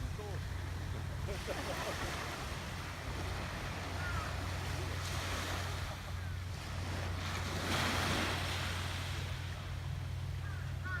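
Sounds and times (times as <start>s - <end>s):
surf washing onto beach: 0.0s - 9.7s
wind rumble on microphone: 0.0s - 11.0s.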